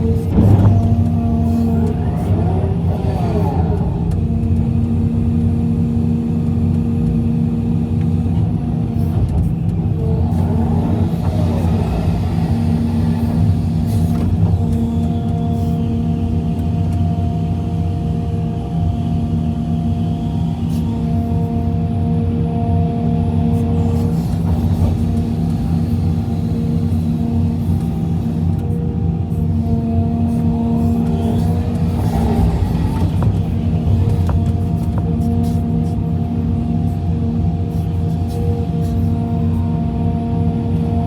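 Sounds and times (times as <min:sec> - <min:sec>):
heavy diesel machinery running: 0:00.0 - 0:41.0
hydraulic whine: 0:00.0 - 0:41.0.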